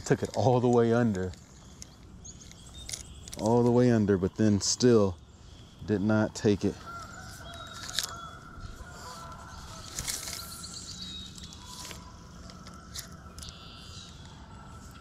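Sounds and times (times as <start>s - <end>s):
bird chirping trill: 0.0s - 15.0s
low steady background noise: 0.0s - 15.0s.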